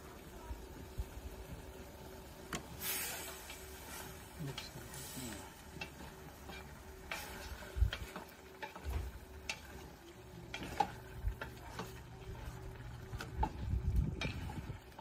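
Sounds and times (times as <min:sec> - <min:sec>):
faint frying sizzle: 0:00.0 - 0:15.0.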